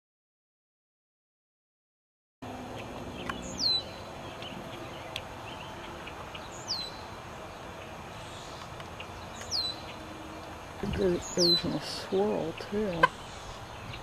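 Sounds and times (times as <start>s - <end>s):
steady background noise: 2.4s - 14.0s.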